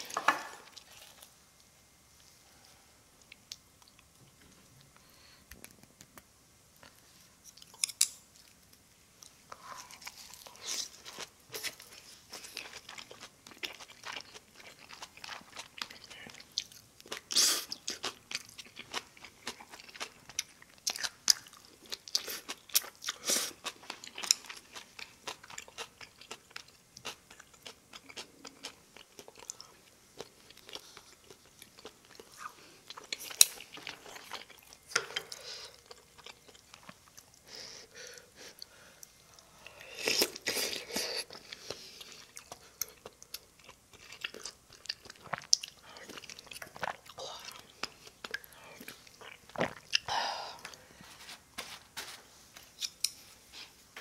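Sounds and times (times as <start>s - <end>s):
person chewing and crunching food: 3.2s - 6.2s, 6.8s - 54.0s.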